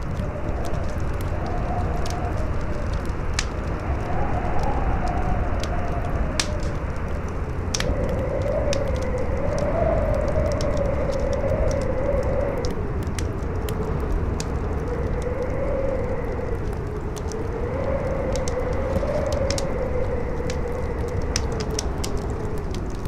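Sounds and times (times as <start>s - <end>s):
campfire crackling and popping: 0.0s - 23.0s
howling wind: 0.0s - 23.0s.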